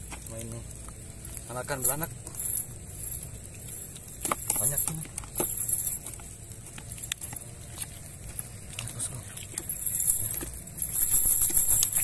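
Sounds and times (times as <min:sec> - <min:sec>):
high steady hiss: 0:00.0 - 0:12.0
chain weights clinking: 0:01.8 - 0:12.0.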